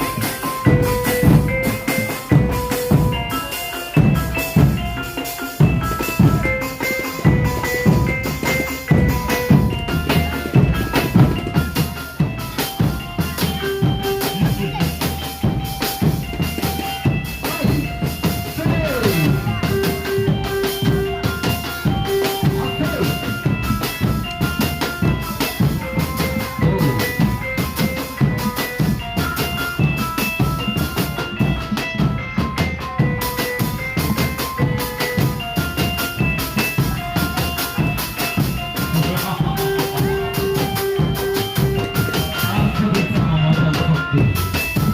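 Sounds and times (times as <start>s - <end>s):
background music with drum beat: 0.0s - 44.9s.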